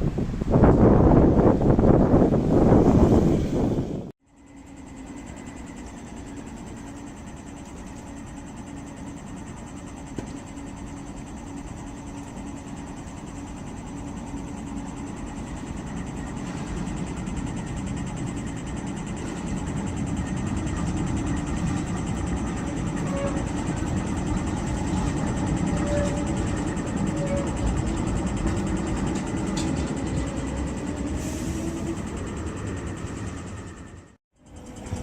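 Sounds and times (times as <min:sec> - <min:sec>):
tram rumbling along street: 0:00.0 - 0:35.0.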